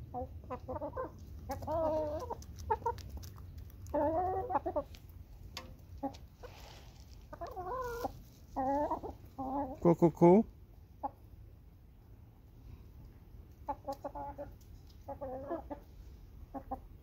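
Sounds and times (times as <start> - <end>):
hens clucking: 0.0 - 11.3, 13.5 - 17.0.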